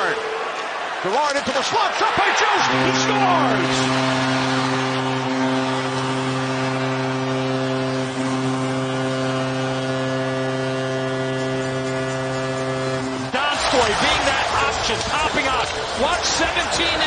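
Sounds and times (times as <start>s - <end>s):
crowd cheering: 0.0s - 17.0s
goal horn long tone: 1.9s - 17.0s.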